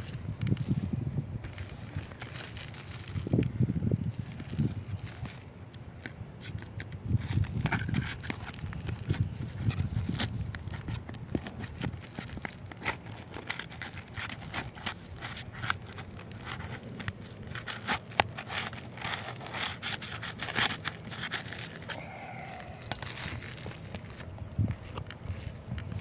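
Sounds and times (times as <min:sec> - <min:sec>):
clicks scrapes and rustles: 0:00.0 - 0:26.0.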